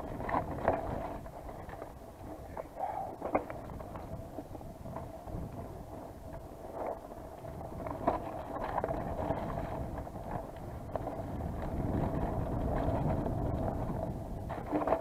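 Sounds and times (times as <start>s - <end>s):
bike frame rattling: 0.0s - 15.0s
wind buffeting microphone: 0.0s - 15.0s.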